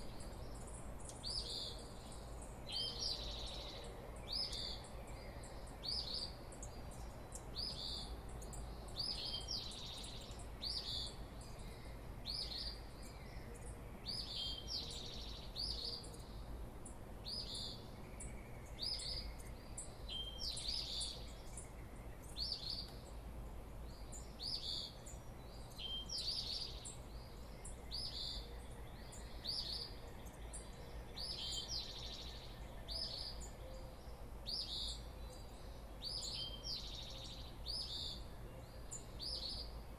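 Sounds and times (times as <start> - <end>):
songbird high call: 0.0 - 23.2, 23.8 - 39.9.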